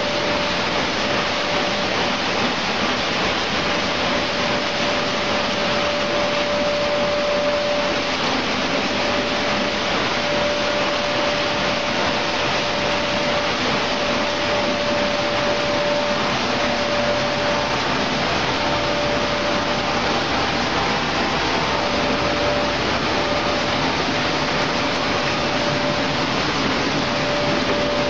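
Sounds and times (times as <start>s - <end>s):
mid-pitched machine whine: 0.0s - 28.0s.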